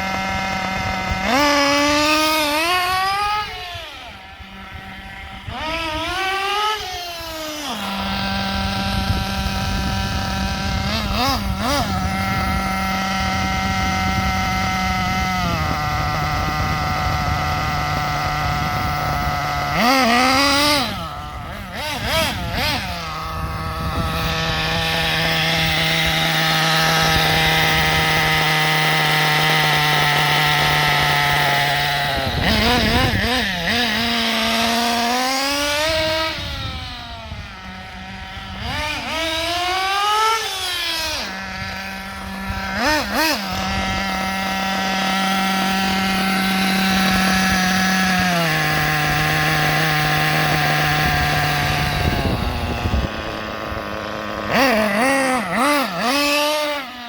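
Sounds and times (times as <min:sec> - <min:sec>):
nitro engine idling and revving: 0:00.0 - 0:57.0.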